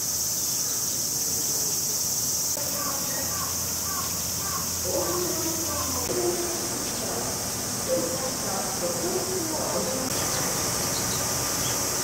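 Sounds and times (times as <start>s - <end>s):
cicada chorus drone: 0.0s - 12.0s
faint voices: 1.0s - 10.7s.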